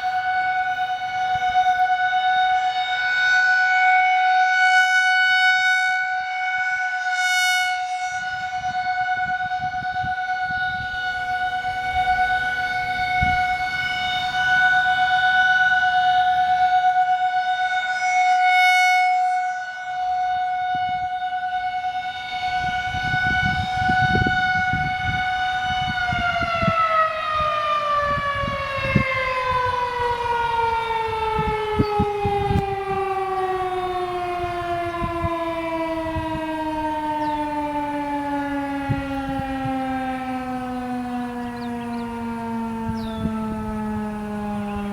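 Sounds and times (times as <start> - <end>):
rotating warning siren: 0.0 - 44.9.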